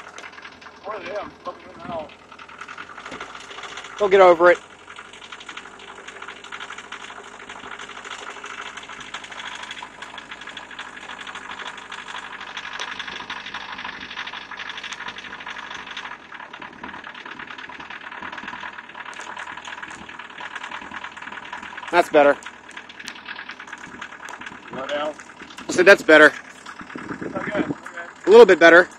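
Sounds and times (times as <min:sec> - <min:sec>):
diesel engine idling clatter: 0:00.0 - 0:28.9.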